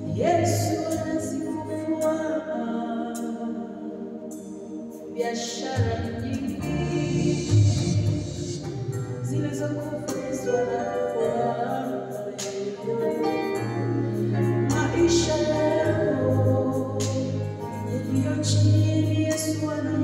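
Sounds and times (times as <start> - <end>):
electronic keyboard chords: 0.0 - 20.0.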